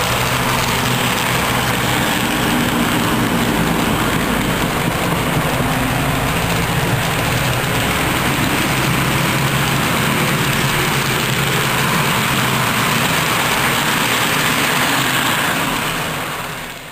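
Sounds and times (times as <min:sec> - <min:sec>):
low hum: 0:00.0 - 0:16.6
model train cars rolling: 0:00.0 - 0:16.9.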